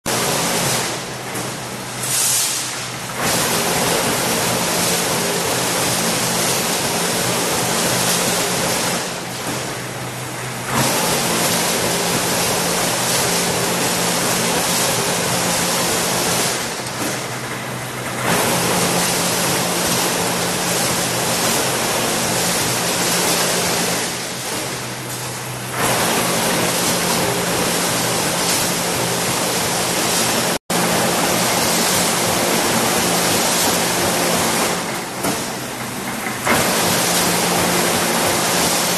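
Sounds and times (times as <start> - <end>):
wire cutting machine rushing noise: 0.0 - 38.9.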